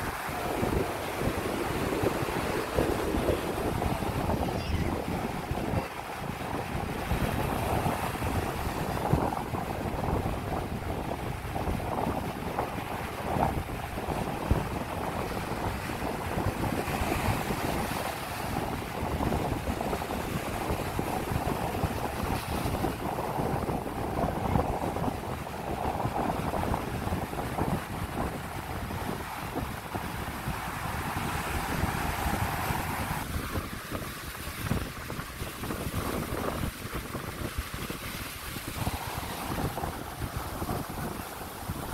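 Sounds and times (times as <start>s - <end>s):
small waves breaking on sand: 0.0s - 41.9s
wind buffeting microphone: 0.0s - 41.9s.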